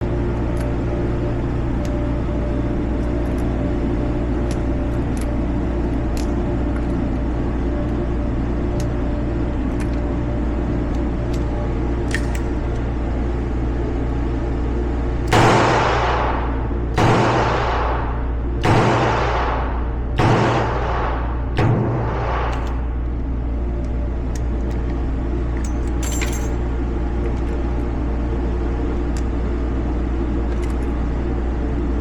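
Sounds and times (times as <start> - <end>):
low hum and rumble: 0.0 - 32.0.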